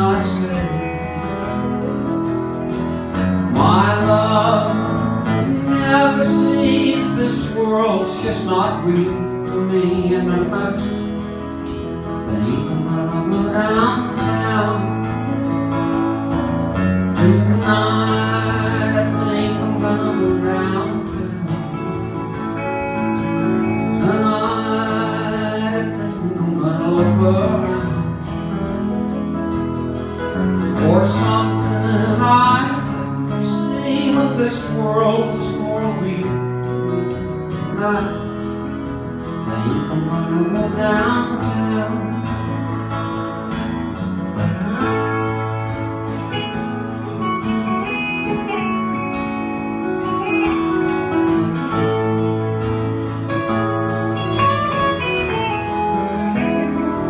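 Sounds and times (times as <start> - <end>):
live country band with guitars: 0.0 - 57.0.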